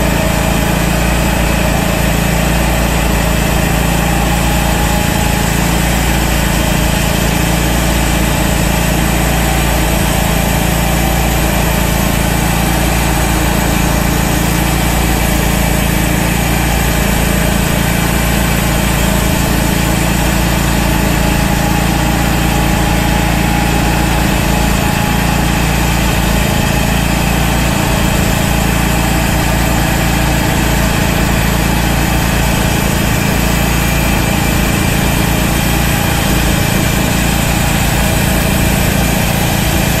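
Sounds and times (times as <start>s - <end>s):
band blade sawing log: 0.0s - 40.0s
sawmill engine running: 0.0s - 40.0s.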